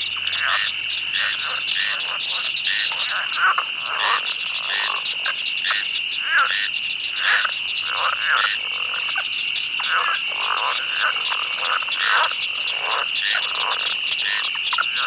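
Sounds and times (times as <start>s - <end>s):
frogs calling and croaking: 0.0s - 15.0s.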